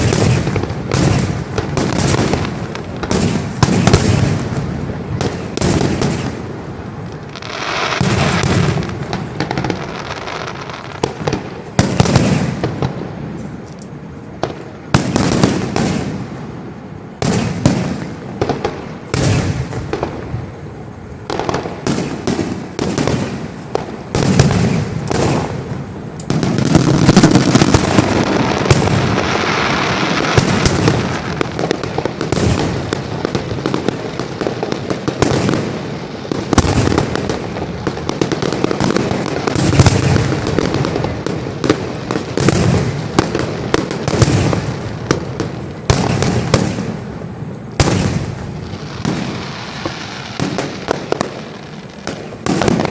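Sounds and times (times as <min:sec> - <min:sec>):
fireworks bangs and booms: 0:00.0 - 0:52.9
fireworks crackling: 0:00.0 - 0:52.9.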